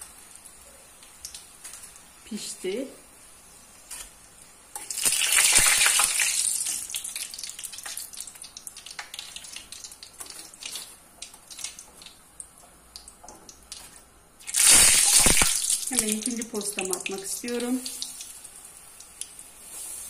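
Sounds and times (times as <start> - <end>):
oil sizzling in a frying pan: 0.0 - 20.0.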